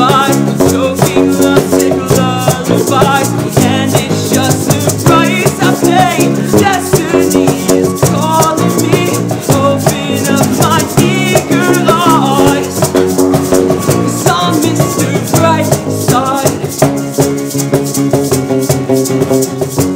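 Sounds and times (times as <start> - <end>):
acoustic bass: 0.0 - 19.9
acoustic guitars strumming: 0.0 - 19.9.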